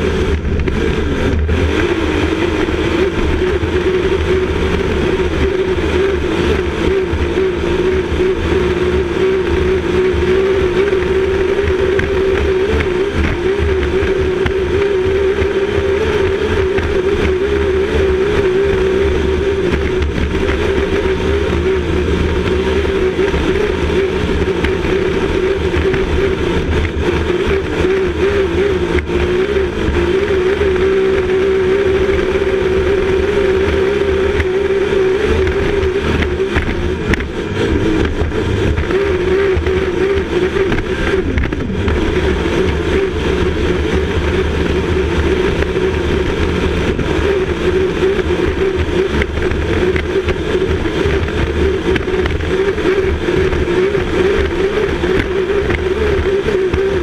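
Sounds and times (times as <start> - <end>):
racing boat engine droning: 0.0 - 57.0
rush of wind and water: 0.0 - 57.0.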